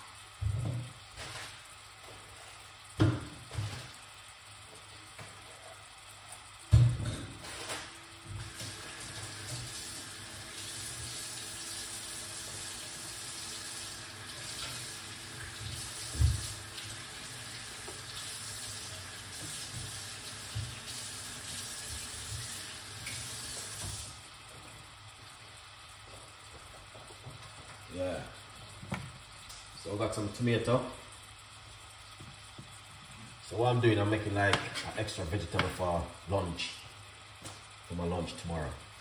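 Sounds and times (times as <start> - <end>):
water running from tap: 0.0 - 36.8.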